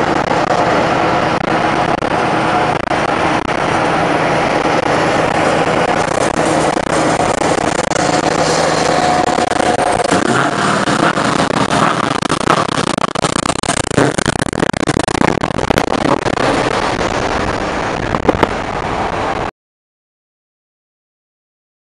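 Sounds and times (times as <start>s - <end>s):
truck diesel engine under throttle: 0.0s - 19.5s.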